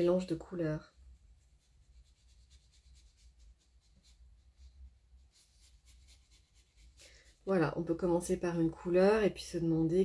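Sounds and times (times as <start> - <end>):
paintbrush strokes on paper: 0.0 - 8.1.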